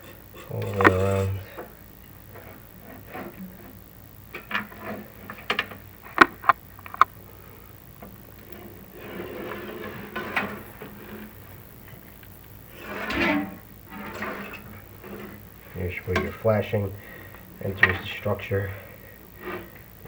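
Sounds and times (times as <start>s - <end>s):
cable scraping in chimney: 0.0s - 7.2s, 8.1s - 20.0s.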